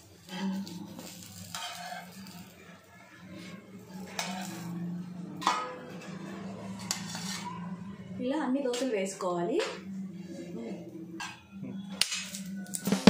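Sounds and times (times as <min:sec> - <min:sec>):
spatula scraping on a griddle: 0:00.0 - 0:12.9.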